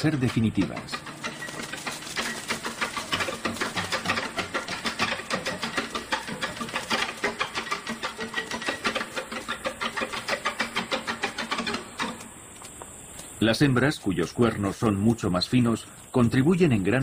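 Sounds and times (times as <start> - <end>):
hooves clattering on stony ground: 0.0 - 17.0.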